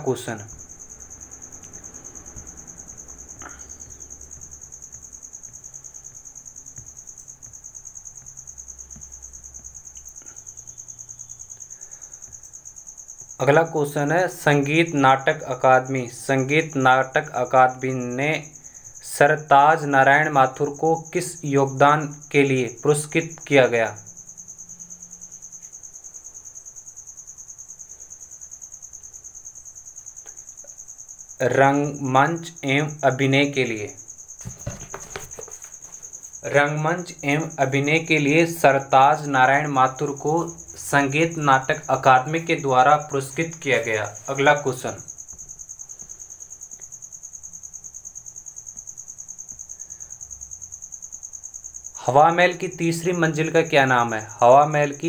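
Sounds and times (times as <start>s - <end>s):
cricket trilling: 0.0s - 55.0s.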